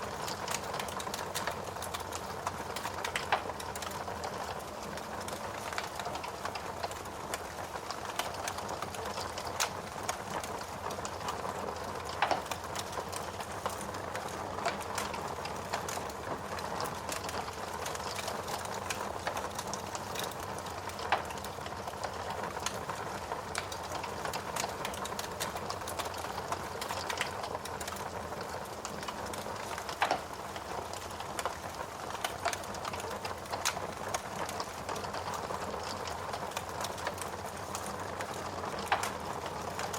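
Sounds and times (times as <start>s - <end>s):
fire hissing and crackling: 0.0s - 39.9s.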